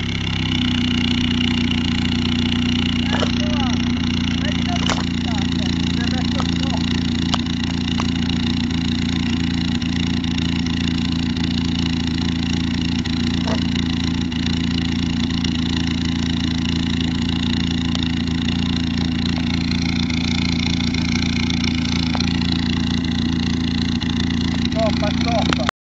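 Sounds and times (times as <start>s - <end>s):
car engine idling: 0.0s - 25.7s.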